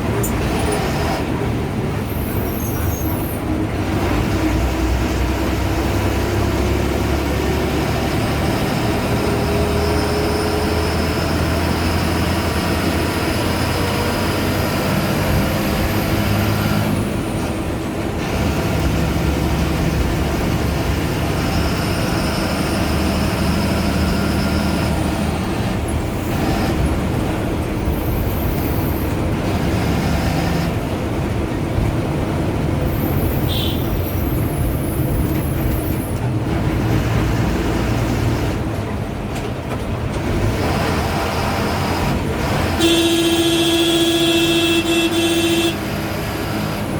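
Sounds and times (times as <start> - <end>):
diesel bus engine running: 0.0 - 46.9.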